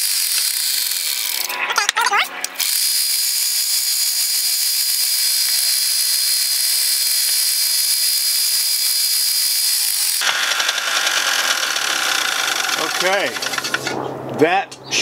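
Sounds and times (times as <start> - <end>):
belt sander grinding metal: 0.0 - 1.6, 2.6 - 14.0.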